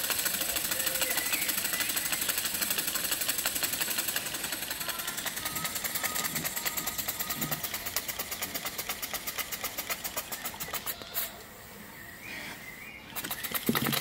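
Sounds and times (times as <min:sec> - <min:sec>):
model steam engine ticking: 0:00.0 - 0:11.1, 0:13.2 - 0:14.0.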